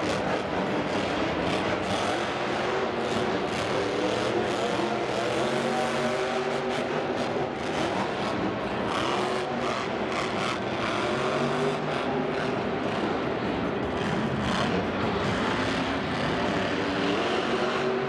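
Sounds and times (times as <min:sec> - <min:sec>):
stadium crowd noise: 0:00.0 - 0:18.0.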